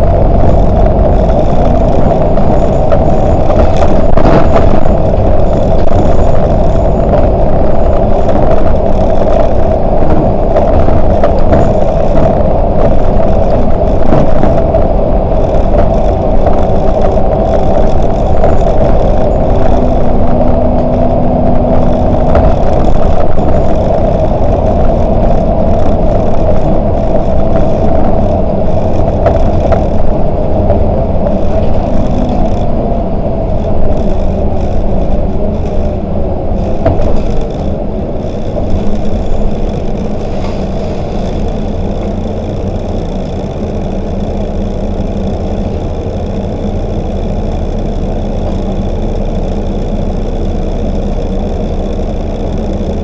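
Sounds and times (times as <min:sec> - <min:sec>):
knocks and rattles: 0:00.0 - 0:32.7, 0:36.6 - 0:50.8
bus engine and road drone: 0:00.0 - 0:53.0.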